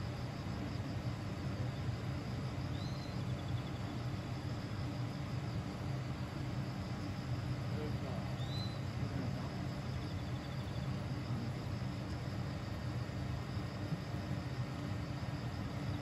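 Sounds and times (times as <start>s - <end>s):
electric train low hum: 0.0s - 16.0s
insects chirping faintly: 0.0s - 16.0s.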